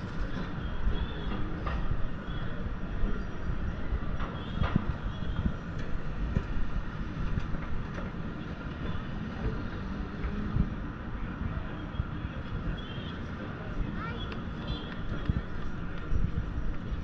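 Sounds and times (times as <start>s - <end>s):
low rumble of city noise: 0.0s - 17.0s.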